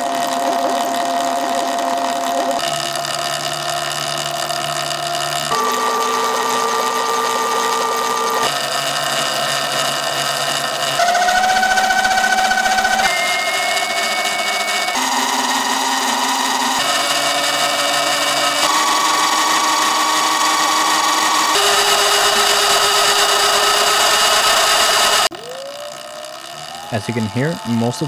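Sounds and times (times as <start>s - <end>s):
electric motor and belt whining: 0.0s - 28.0s.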